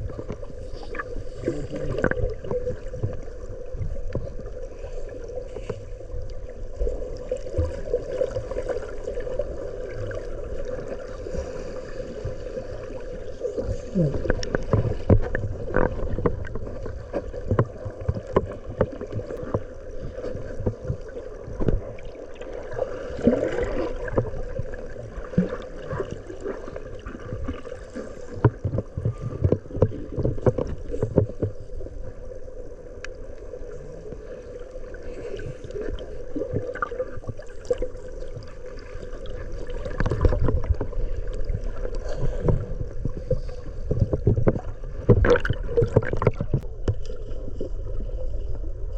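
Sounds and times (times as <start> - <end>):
water sloshing: 0.0 - 48.9.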